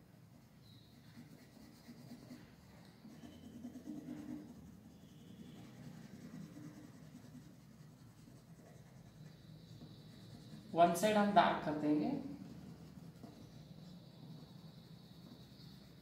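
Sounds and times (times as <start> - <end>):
pencil scratching on paper: 0.3 - 16.0.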